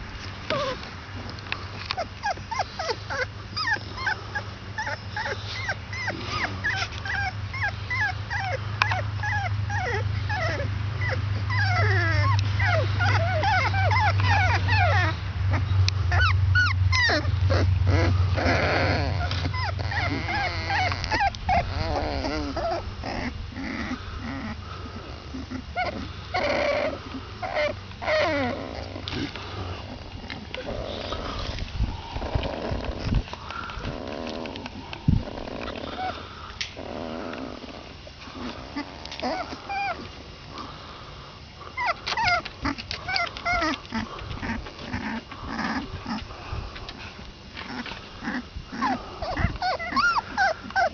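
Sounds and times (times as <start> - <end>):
puppies whimpering and squeaking: 0.0 - 1.0, 1.7 - 40.7, 41.7 - 50.9
steady low hum: 0.0 - 50.9.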